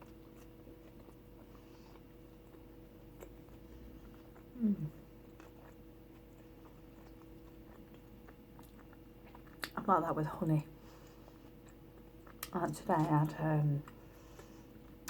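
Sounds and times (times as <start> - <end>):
faint chewing: 0.0 - 9.9, 10.8 - 15.0
steady electrical hum: 0.0 - 15.0.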